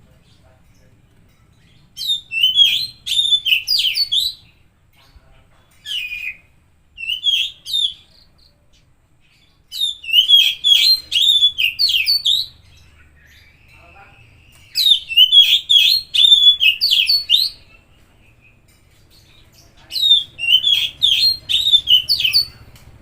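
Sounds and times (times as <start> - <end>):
bird singing: 0.0 - 23.0.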